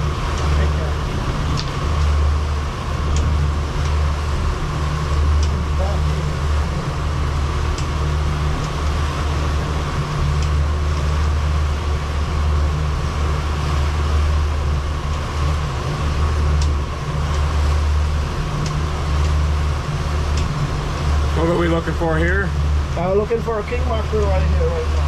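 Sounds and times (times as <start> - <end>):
boat engine drone: 0.0 - 25.0.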